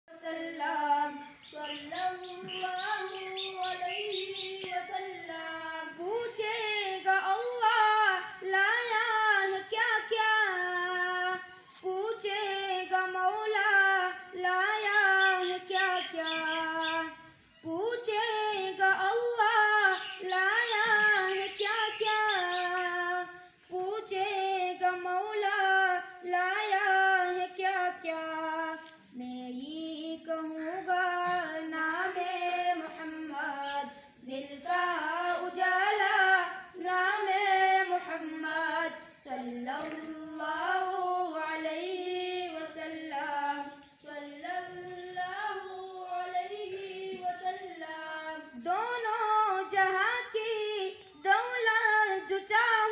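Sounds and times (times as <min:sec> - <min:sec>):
boys singing unaccompanied: 0:00.1 - 0:52.9.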